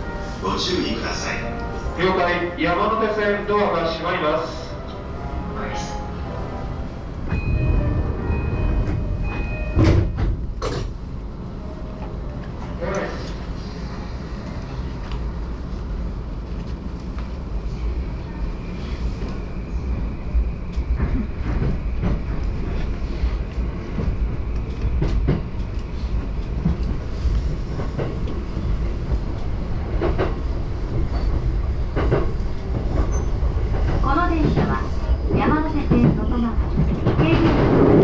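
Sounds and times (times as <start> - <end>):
train rumble inside carriage: 0.0 - 38.0.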